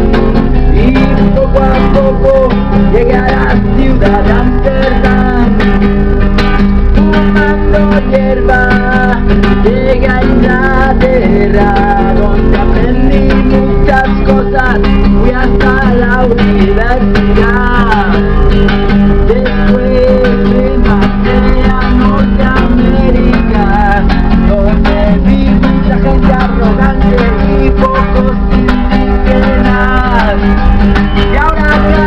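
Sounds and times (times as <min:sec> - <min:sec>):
classical guitar strummed: 0:00.0 - 0:32.0
man singing: 0:00.0 - 0:32.0.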